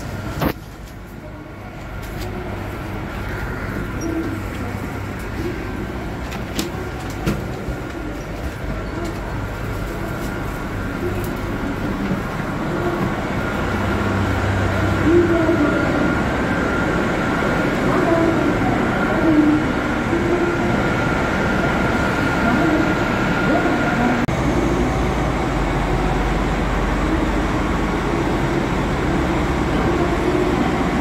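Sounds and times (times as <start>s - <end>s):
railcar low rumble: 0.0s - 31.0s.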